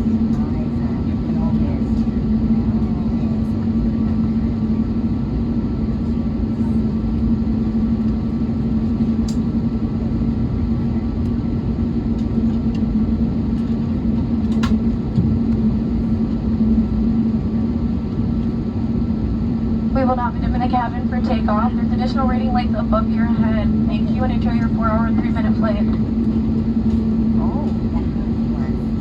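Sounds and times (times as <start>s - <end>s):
aircraft cabin droning hum: 0.0s - 29.0s.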